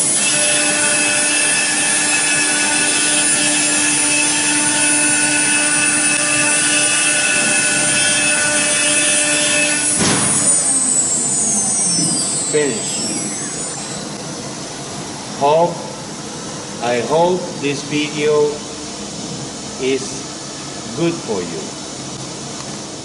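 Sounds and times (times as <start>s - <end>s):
cnc router spindle whining: 0.0s - 23.0s.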